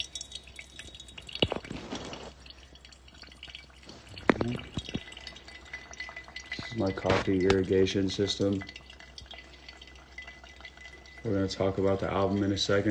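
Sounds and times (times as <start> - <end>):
water dripping: 0.0 - 12.9
water pouring: 0.0 - 12.9.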